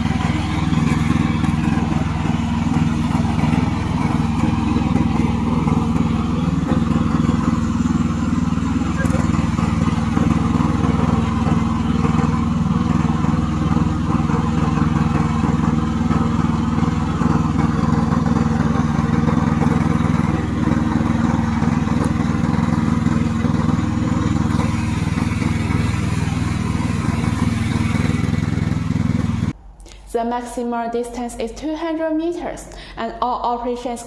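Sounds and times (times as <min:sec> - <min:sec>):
mower engine running: 0:00.0 - 0:29.6.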